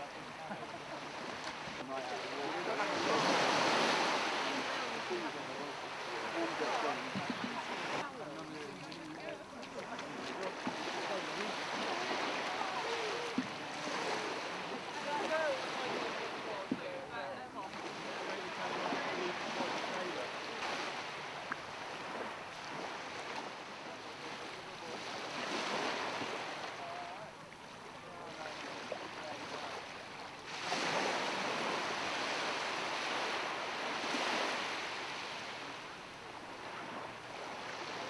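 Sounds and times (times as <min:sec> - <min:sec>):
sea waves breaking: 0:00.0 - 0:38.0.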